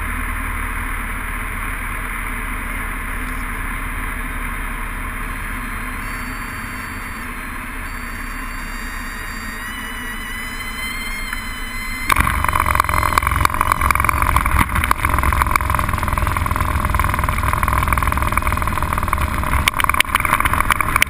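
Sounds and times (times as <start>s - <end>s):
airplane engine and propeller droning: 0.0s - 21.0s.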